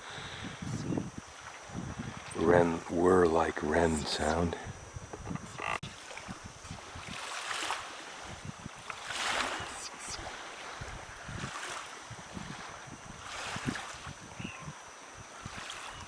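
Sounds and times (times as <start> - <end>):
wind buffeting microphone: 0.0 - 3.3, 4.0 - 16.0
small waves on lakeshore: 0.0 - 16.0.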